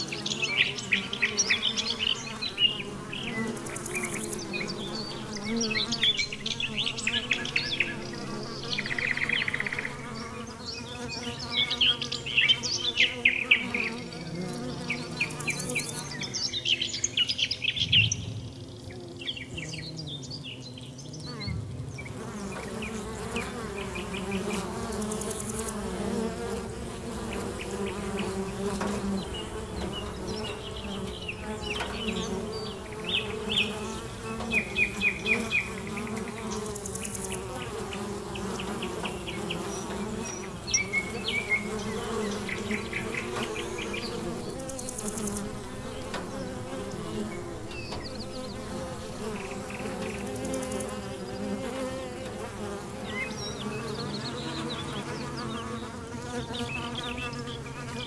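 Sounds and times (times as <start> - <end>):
buzzing drone of flying insects: 0.0 - 58.0.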